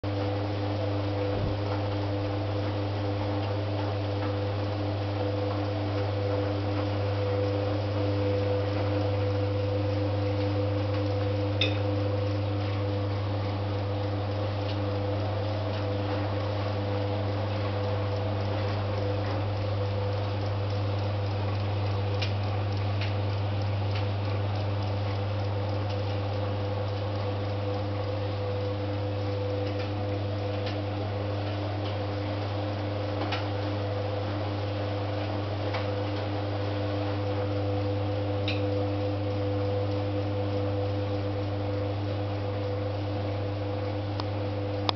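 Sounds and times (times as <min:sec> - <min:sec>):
tumble dryer motor hum: 0:00.0 - 0:44.9.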